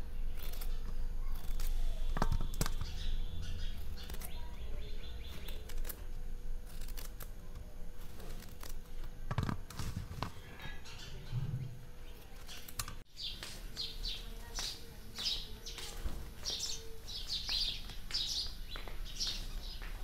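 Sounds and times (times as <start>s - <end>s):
small birds chirping: 0.0s - 8.8s, 10.2s - 20.0s.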